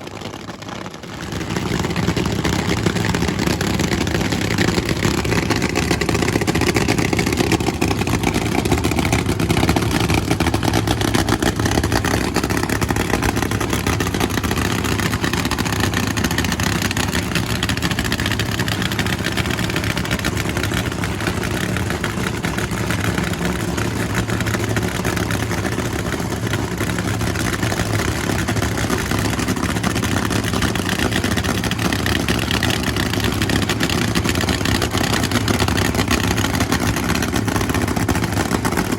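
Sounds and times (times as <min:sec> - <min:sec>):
loud racing engine running: 0:00.0 - 0:38.9.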